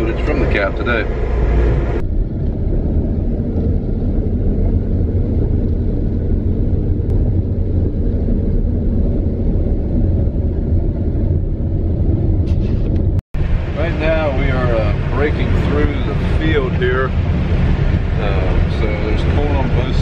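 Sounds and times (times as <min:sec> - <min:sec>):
combine harvester engine rumble: 0:00.0 - 0:20.0.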